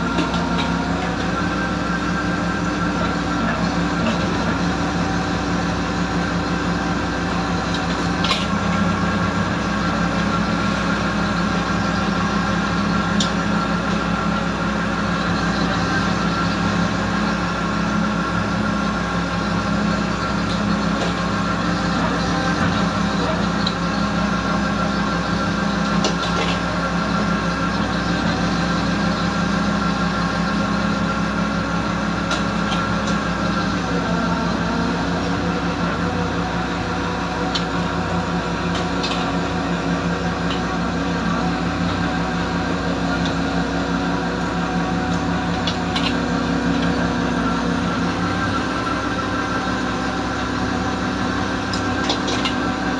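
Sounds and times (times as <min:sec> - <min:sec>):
boat machinery droning: 0:00.0 - 0:52.9.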